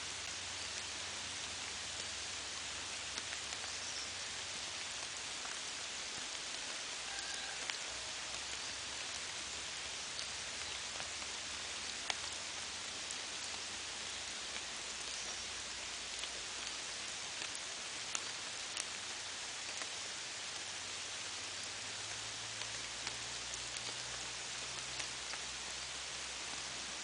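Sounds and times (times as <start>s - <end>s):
rain falling: 0.0s - 27.0s
raindrops tapping: 1.6s - 27.0s.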